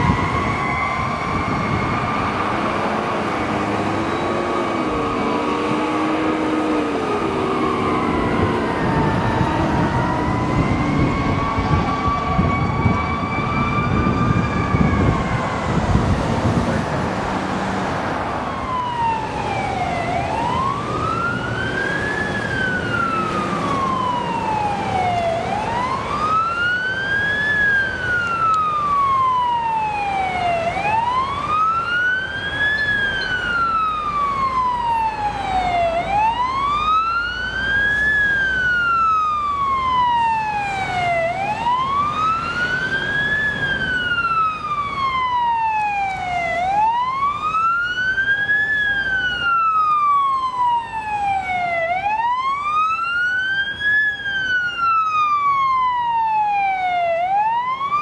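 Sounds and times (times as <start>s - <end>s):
fire engine siren wailing: 0.0s - 58.0s
idling traffic rumble: 0.0s - 58.0s.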